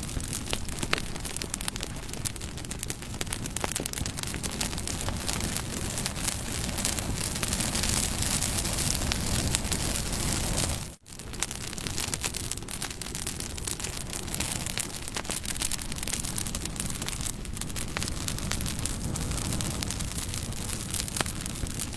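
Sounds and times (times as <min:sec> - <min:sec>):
bonfire rushing hiss: 0:00.0 - 0:21.9
burning wood crackling: 0:00.0 - 0:21.9.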